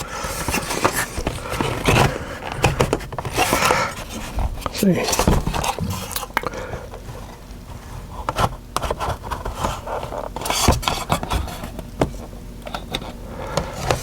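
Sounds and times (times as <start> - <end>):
rubbing and scraping plastic: 0.0 - 14.0.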